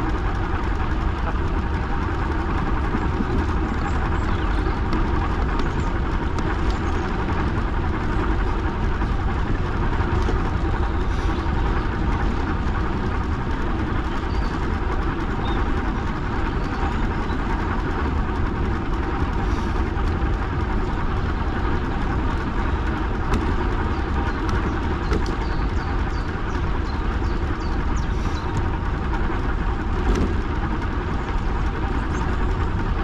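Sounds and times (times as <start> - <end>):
tyres rolling on path: 0.0 - 33.0
wind buffeting microphone: 0.0 - 33.0.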